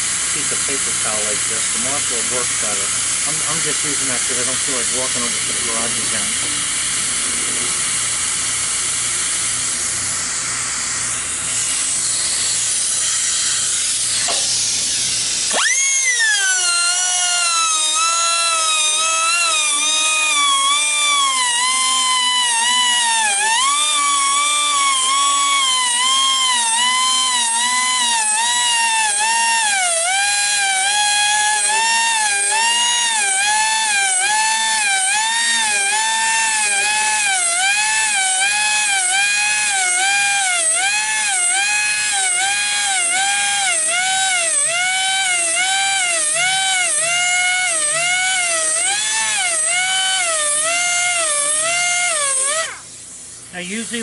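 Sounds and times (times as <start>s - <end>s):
rotary grinder sharpening blade: 0.4s - 9.7s, 10.8s - 53.1s.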